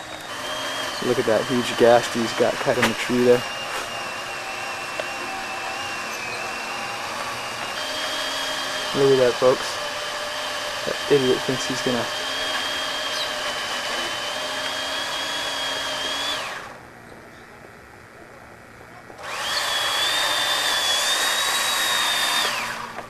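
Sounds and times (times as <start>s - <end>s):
electric chainsaw cutting wood: 0.0s - 17.0s, 19.0s - 23.0s.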